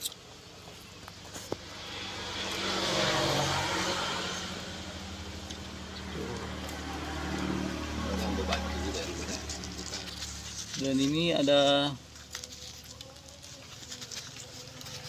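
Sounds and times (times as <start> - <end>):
engine passing by: 0.2 - 15.0.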